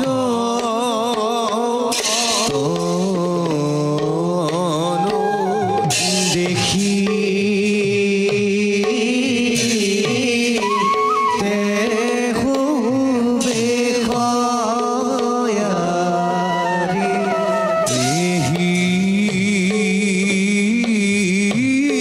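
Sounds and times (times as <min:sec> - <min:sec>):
drums beating: 0:00.0 - 0:22.0.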